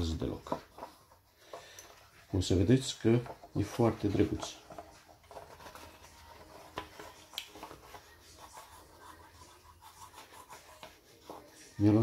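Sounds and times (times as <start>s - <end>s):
iron rubbing on plastic film: 2.0s - 12.0s.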